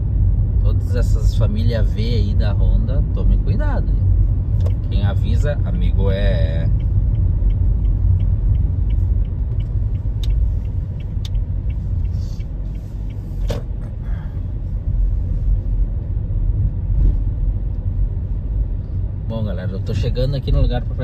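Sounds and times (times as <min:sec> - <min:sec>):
car cabin road and engine rumble: 0:00.0 - 0:21.0
turn signal ticking: 0:00.0 - 0:21.0.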